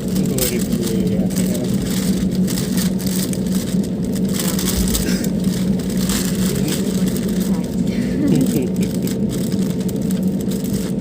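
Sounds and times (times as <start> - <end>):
aircraft engines rumbling: 0.0 - 11.0.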